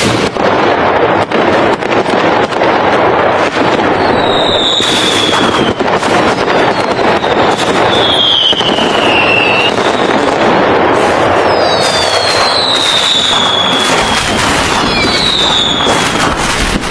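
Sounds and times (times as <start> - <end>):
fireworks crackling pops: 0.0 - 16.9
whistling fireworks: 0.0 - 16.9.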